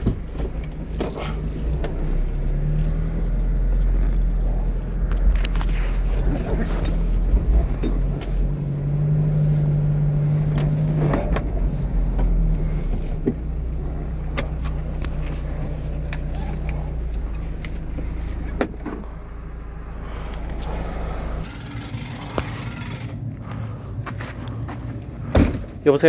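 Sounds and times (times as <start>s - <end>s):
low engine hum: 0.0s - 25.9s.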